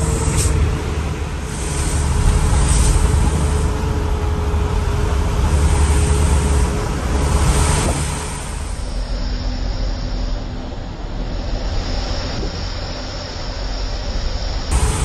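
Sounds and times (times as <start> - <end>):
rushing hiss: 0.0 - 15.0
truck engine rumble: 0.0 - 15.0.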